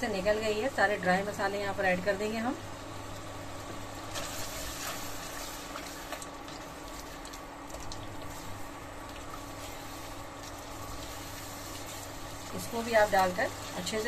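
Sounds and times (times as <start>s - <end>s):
meat frying in hot oil: 0.0s - 14.0s.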